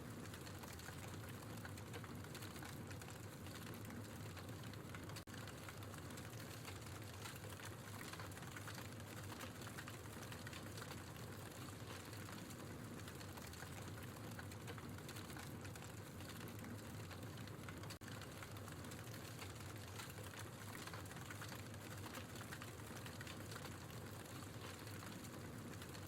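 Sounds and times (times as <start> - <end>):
logs crackling in a fireplace: 0.0 - 26.0.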